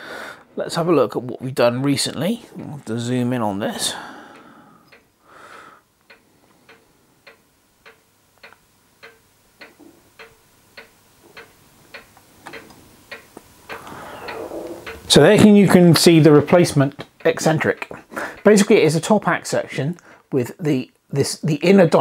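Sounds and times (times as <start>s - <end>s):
faint ticking: 3.7s - 22.0s.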